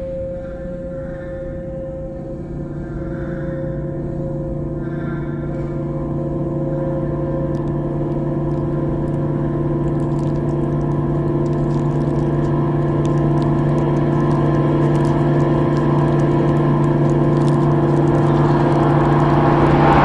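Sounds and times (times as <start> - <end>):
low droning chord music: 0.0 - 20.0.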